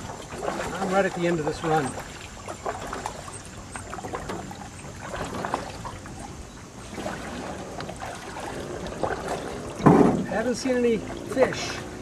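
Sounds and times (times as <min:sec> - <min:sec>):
water splashing off paddle: 0:00.0 - 0:12.0.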